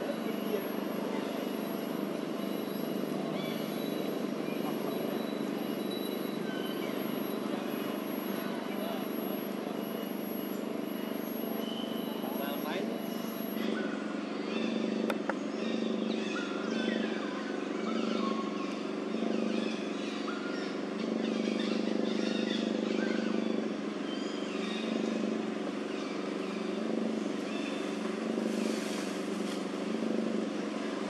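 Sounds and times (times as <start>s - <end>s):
steady engine hum: 0.0s - 31.0s.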